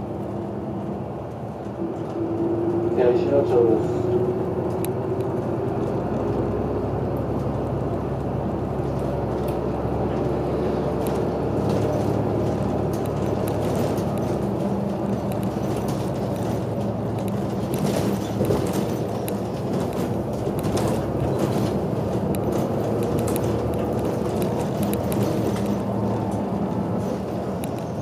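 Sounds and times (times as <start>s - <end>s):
bus engine humming: 0.0s - 28.0s.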